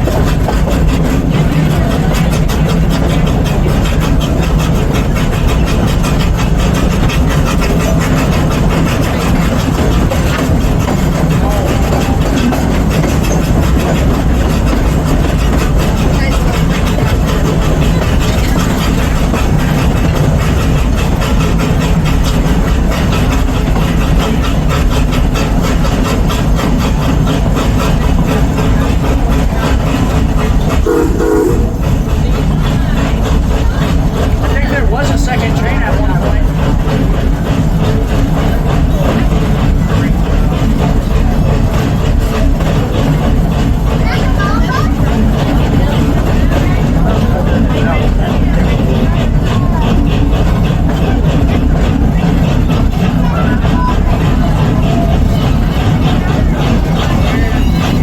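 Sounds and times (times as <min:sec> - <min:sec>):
miniature train rumbling and clattering: 0:00.0 - 0:58.0.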